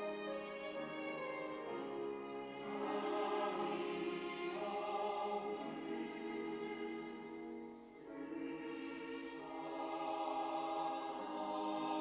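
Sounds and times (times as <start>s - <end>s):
church choir singing chords: 0.0s - 12.0s.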